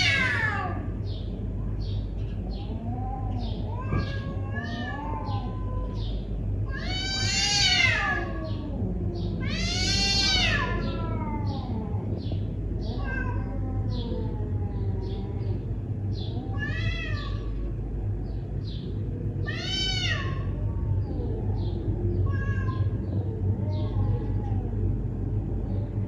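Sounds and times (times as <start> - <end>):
cats yowling: 0.0 - 26.0.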